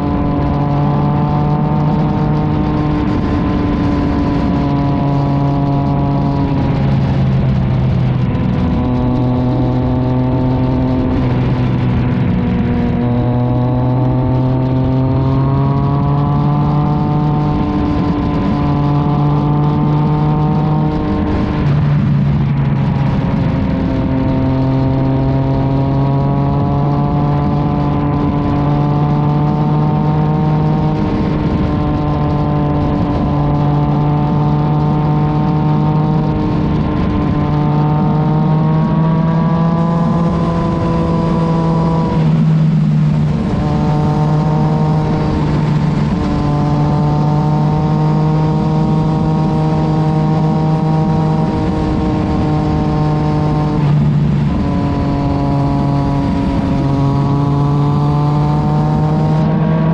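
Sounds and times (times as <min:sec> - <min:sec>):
motorcycle exhaust drone: 0:00.0 - 0:59.9.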